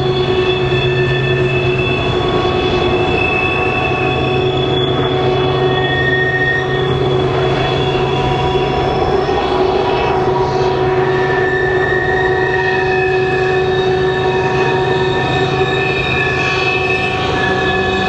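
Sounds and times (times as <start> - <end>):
low train rumble: 0.0 - 18.0
train wheels squealing on rails: 0.0 - 18.0.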